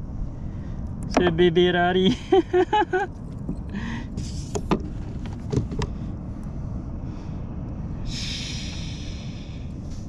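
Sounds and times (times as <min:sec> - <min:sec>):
wind and sea rumble: 0:00.0 - 0:10.0.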